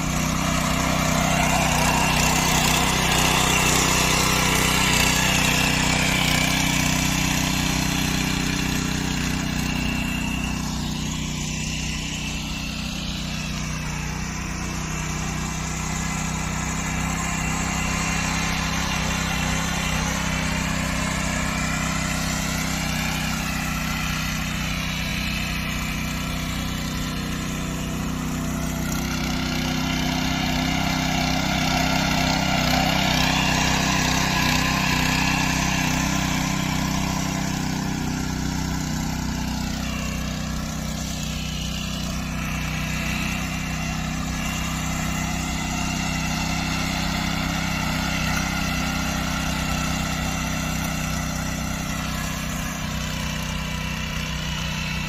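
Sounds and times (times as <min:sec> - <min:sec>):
tiller engine running under load: 0:00.0 - 0:55.0.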